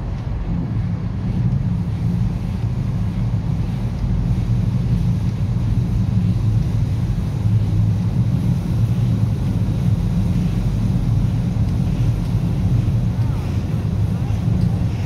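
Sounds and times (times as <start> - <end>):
steam locomotive rumbling: 0.0 - 15.0.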